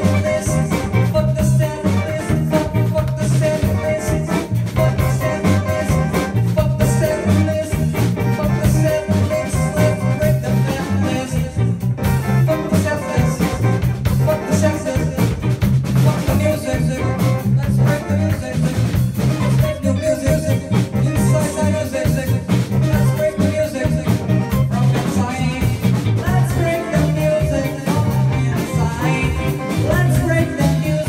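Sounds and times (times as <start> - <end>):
lead singer singing: 0.0 - 31.0
live rock band playing: 0.0 - 31.0.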